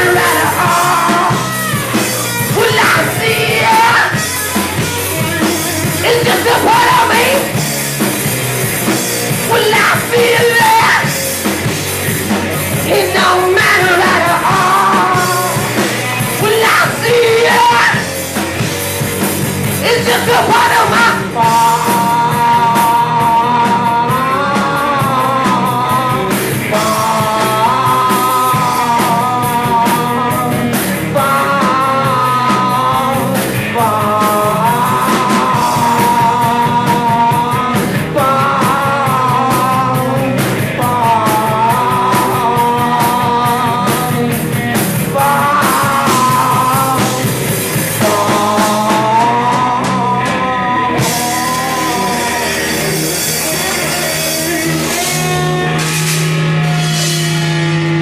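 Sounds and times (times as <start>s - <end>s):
live rock band playing: 0.0s - 58.0s
wavering lead guitar line: 0.0s - 58.0s.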